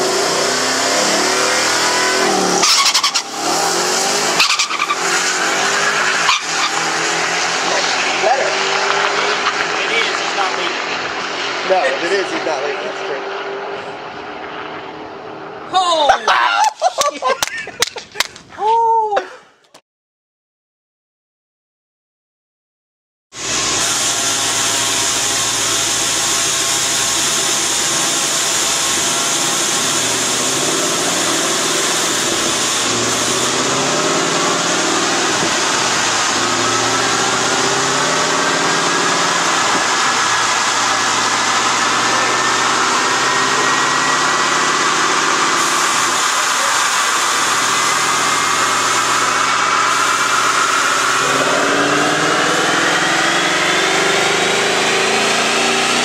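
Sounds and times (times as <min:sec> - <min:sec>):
car engine revving on a dyno: 0:00.0 - 0:15.7, 0:23.4 - 0:56.0
rising whine: 0:00.0 - 0:15.7, 0:23.4 - 0:56.0.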